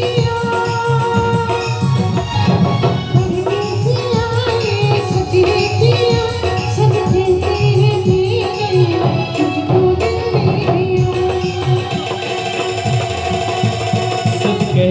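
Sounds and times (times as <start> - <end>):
devotional band music over speakers: 0.0 - 14.9
hand drum beat: 0.0 - 14.9.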